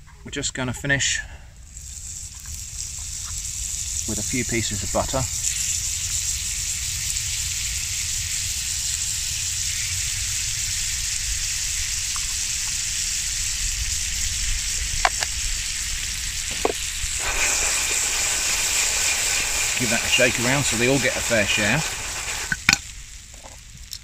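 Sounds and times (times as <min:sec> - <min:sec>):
food frying in a pan: 0:01.6 - 0:24.0.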